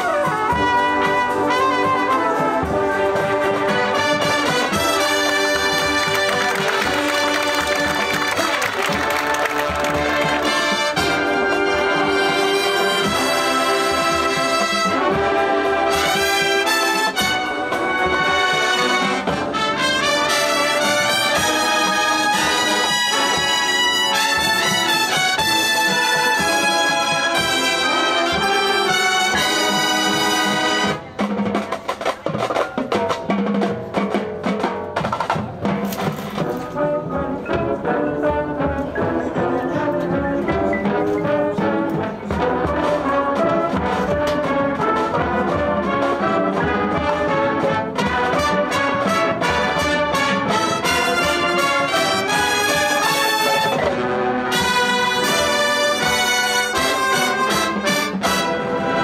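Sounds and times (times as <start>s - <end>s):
brass chords: 0.0s - 31.3s, 35.9s - 59.0s
percussion playing: 0.0s - 59.0s.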